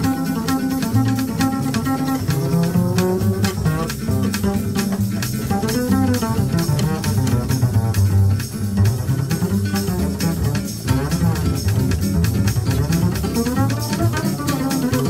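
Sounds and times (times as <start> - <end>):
plucked double basses: 0.0 - 15.0.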